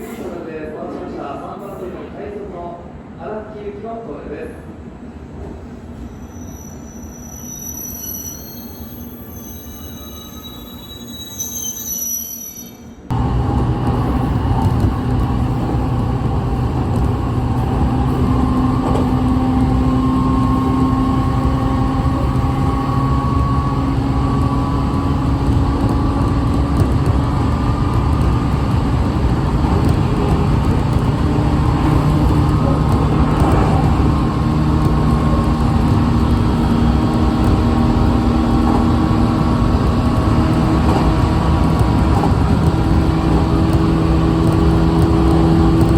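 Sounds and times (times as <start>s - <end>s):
moving train rumble: 4.6s - 45.9s.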